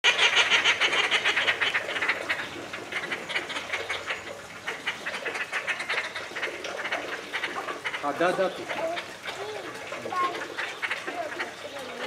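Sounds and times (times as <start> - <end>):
terns chattering calls: 0.0 - 12.0.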